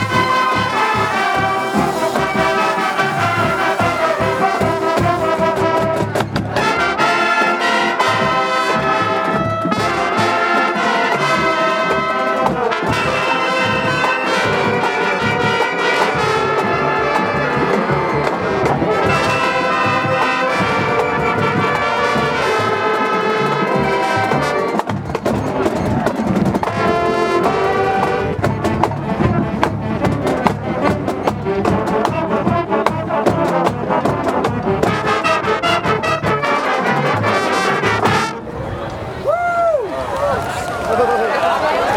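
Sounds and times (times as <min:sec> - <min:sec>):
drumline hits: 0:00.0 - 0:38.6
brass chords: 0:00.0 - 0:38.8.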